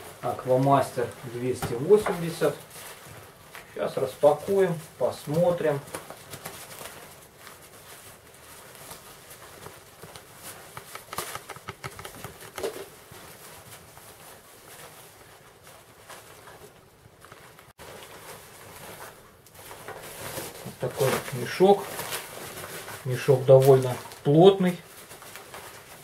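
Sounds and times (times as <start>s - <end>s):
fabric bag rustling: 0.0s - 26.0s.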